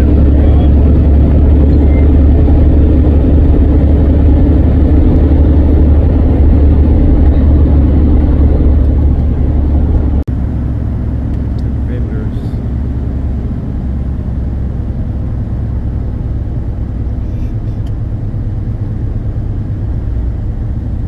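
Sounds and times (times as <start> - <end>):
road vehicle rumble: 0.0 - 21.0.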